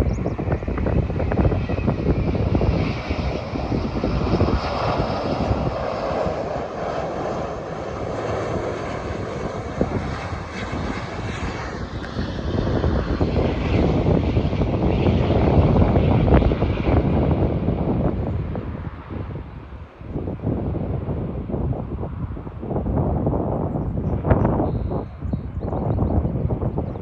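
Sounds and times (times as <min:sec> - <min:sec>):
gusty low rumble: 0:00.0 - 0:27.0
jet engine roar and whine: 0:00.0 - 0:27.0.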